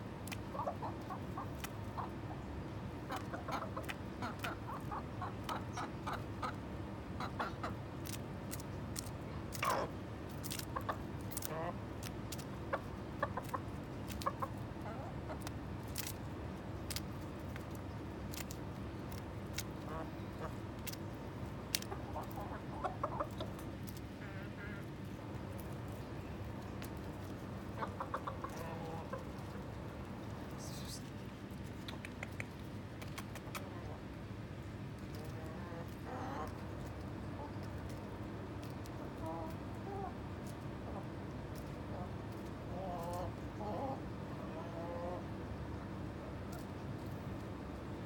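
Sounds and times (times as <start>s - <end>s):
chickens clucking: 0.0s - 30.8s, 35.0s - 45.6s
steady low hum: 0.0s - 48.0s
hens pecking lettuce: 0.1s - 45.3s.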